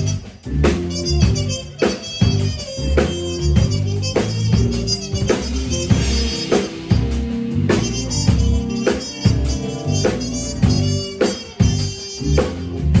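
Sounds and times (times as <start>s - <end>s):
backing music with beat: 0.0s - 13.0s
muted trumpet playing blues: 0.0s - 13.0s.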